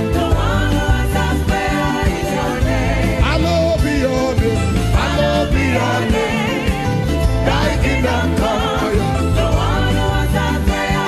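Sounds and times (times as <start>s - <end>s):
gospel music with drums and bass: 0.0s - 11.0s.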